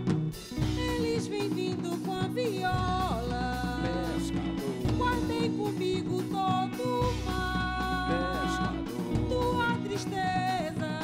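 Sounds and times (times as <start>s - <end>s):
live band playing: 0.0s - 11.0s
person singing: 0.6s - 11.0s.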